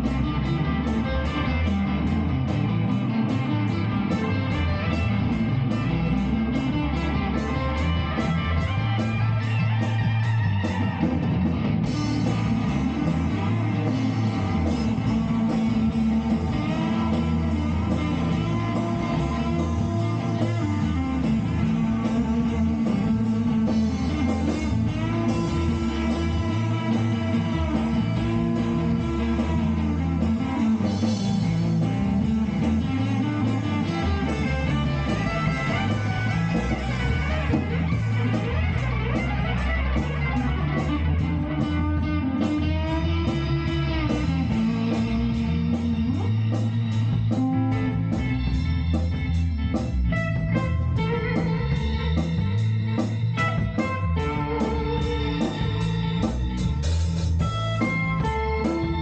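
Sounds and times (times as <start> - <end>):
electric guitar leading: 0.0 - 59.0
moving bass line: 0.0 - 59.0.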